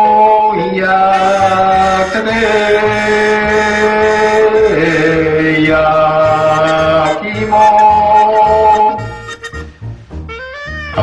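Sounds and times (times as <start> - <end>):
vendor chanting call: 0.0 - 9.6
backing music: 0.9 - 11.0.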